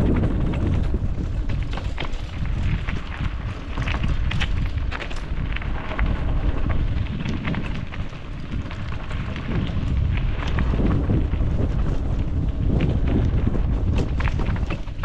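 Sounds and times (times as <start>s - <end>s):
bike clicks and rattles: 0.0s - 15.0s
wind rumbling on microphone: 0.0s - 15.0s.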